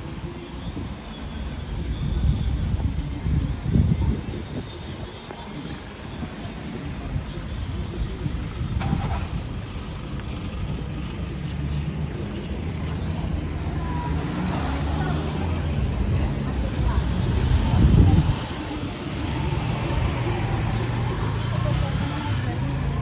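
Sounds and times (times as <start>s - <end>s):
street traffic: 0.0s - 23.0s.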